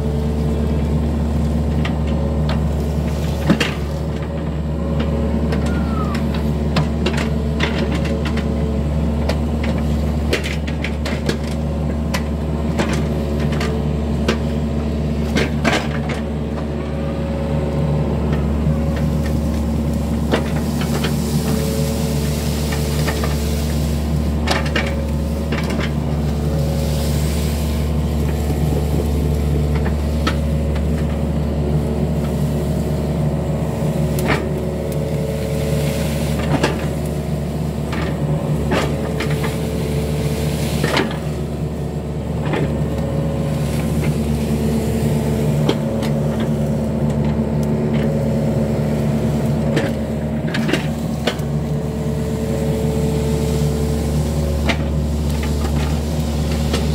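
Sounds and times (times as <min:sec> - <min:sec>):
diesel engine under load: 0:00.0 - 0:56.9.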